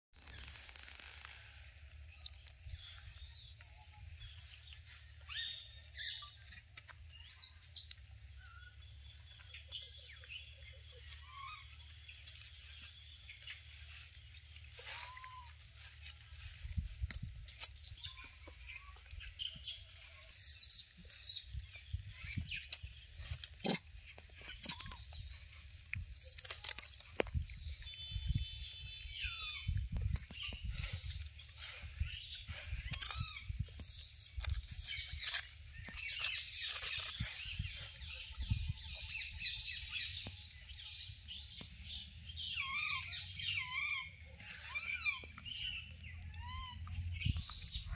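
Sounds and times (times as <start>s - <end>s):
faint chirps and squeaks: 0.2s - 47.9s.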